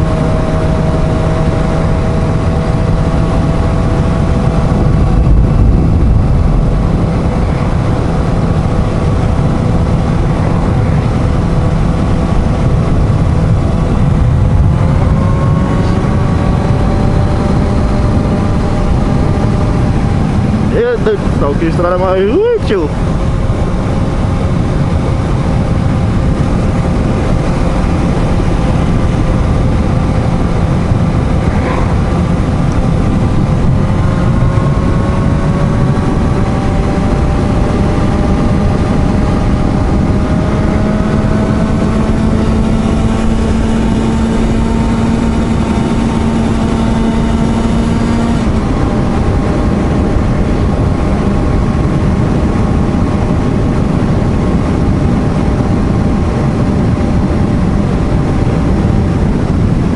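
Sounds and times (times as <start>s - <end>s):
heavy wind: 0.0s - 59.9s
motorcycle engine accelerating: 0.0s - 59.9s
road rush: 0.0s - 59.9s.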